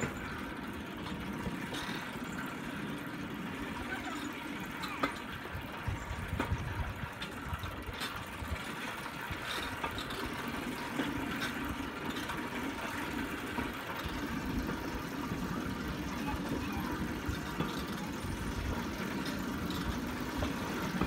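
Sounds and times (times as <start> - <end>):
wheels rumbling on rails: 0.0 - 21.0.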